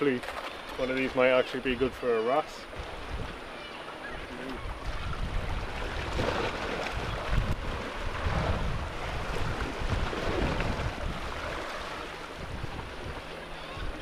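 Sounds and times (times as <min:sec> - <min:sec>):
sea waves against rocks: 0:00.0 - 0:14.0
wind buffeting microphone: 0:02.7 - 0:14.0.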